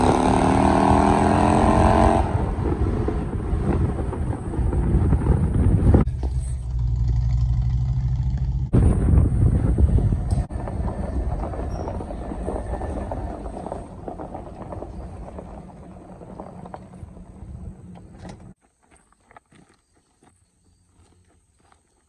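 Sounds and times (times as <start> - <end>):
vehicle engine and road rumble: 0.0 - 18.6.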